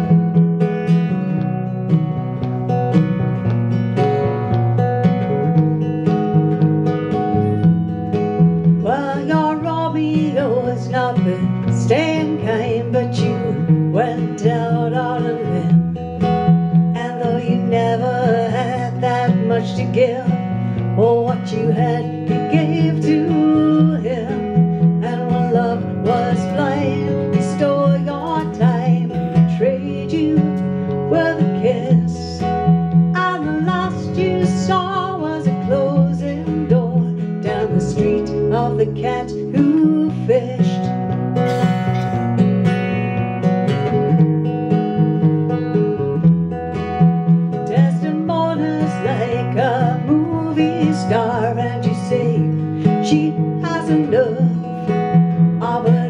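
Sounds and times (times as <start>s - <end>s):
acoustic guitar: 0.0s - 56.0s
woman singing: 5.3s - 41.3s, 46.9s - 56.0s.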